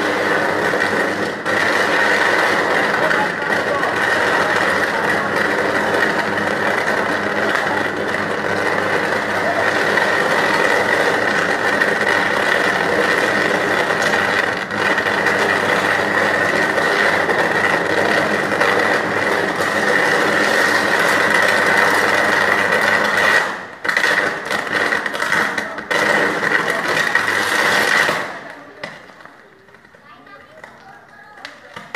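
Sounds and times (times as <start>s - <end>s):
power line arcing crackling buzz: 0.0s - 29.1s.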